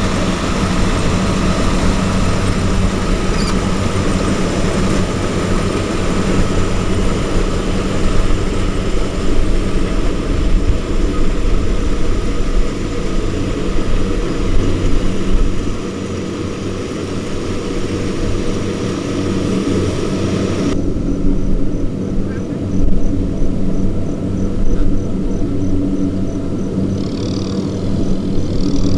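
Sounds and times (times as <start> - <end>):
diesel engine humming: 0.0 - 28.9.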